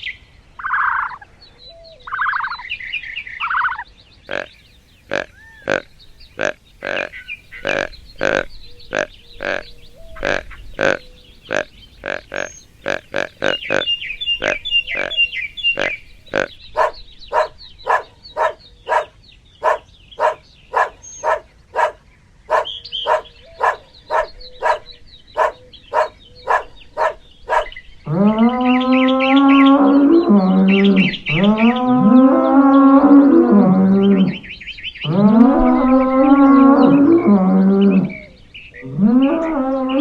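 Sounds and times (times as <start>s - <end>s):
birds chirping faintly: 0.0s - 40.0s.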